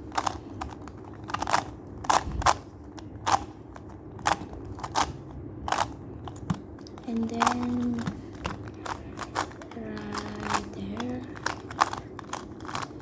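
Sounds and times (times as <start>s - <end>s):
plastic puzzle clacking: 0.0s - 13.0s.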